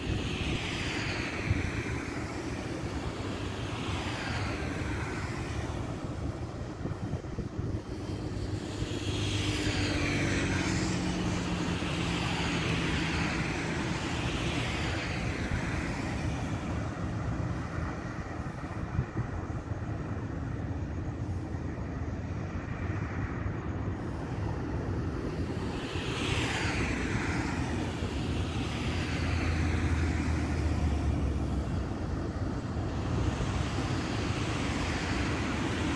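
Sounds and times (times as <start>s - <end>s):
road traffic noise: 0.0s - 35.9s.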